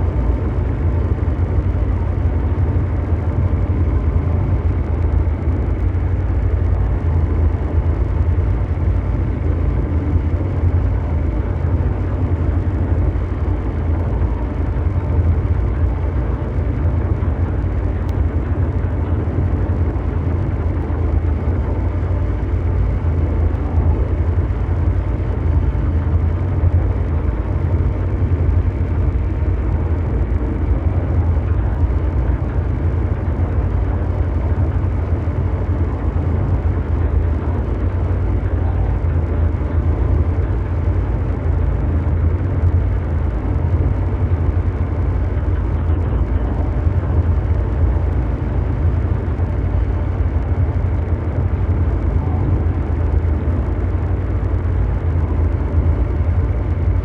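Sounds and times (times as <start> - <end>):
deep mechanical drone: 0.0 - 57.0.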